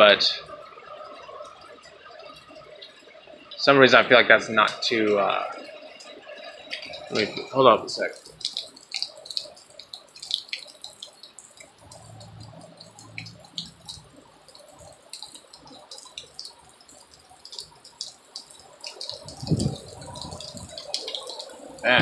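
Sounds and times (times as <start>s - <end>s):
rain drops tapping: 0.0s - 22.0s.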